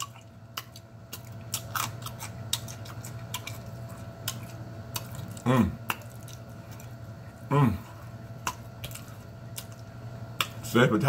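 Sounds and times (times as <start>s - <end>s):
crunchy chewing: 0.0s - 10.6s
low electrical hum: 0.0s - 11.0s.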